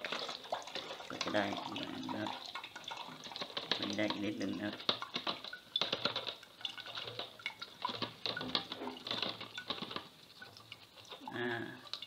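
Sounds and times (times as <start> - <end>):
liquid pattering: 0.0 - 12.0
wet rice mash squelching: 0.0 - 12.0.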